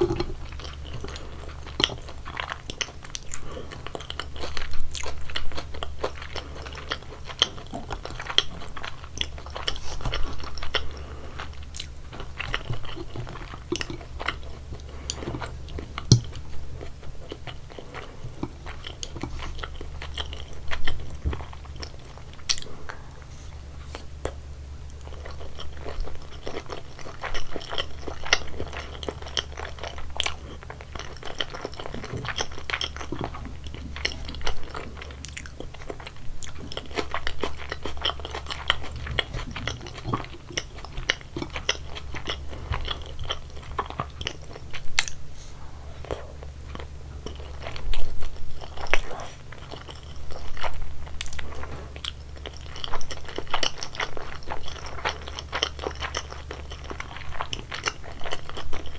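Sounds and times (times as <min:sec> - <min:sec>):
chewing crunchy wet bites: 0:00.0 - 0:23.3, 0:24.0 - 0:45.3, 0:46.0 - 0:58.9
steady low hum: 0:00.0 - 0:58.9.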